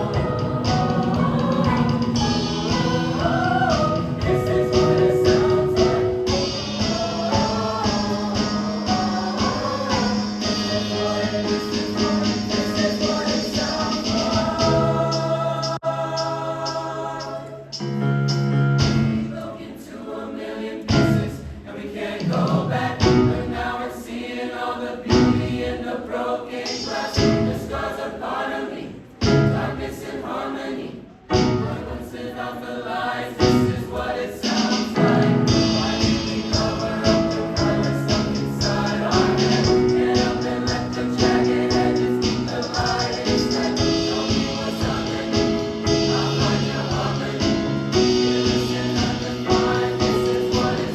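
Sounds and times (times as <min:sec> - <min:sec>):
choir singing in harmony: 0:00.0 - 0:50.9.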